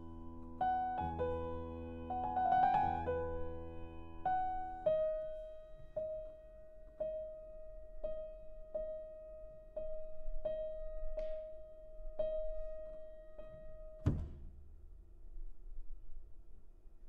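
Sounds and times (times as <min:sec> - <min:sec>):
piano chord: 0:00.0 - 0:14.1.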